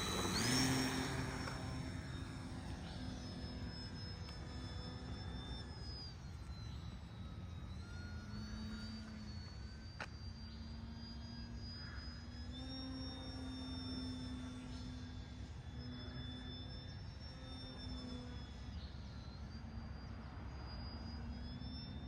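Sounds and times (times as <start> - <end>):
model airplane motor whining: 0.0 - 22.0.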